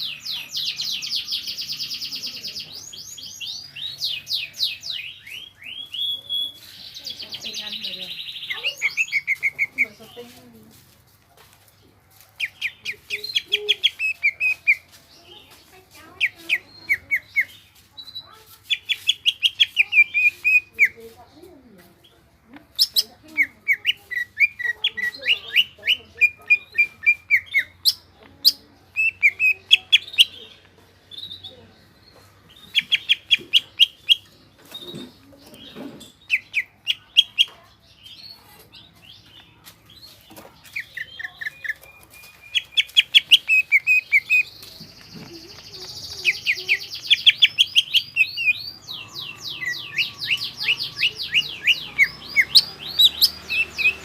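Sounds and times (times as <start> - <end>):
bird rapid chirping song: 0.0 - 10.8, 12.4 - 54.0.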